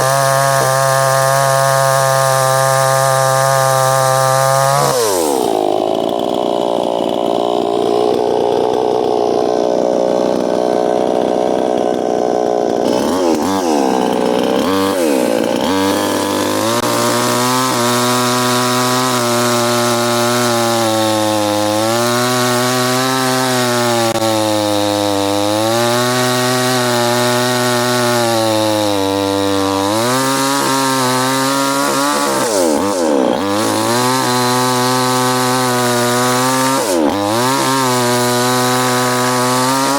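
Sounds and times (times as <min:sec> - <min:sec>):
chainsaw running at high throttle: 0:00.0 - 0:39.9.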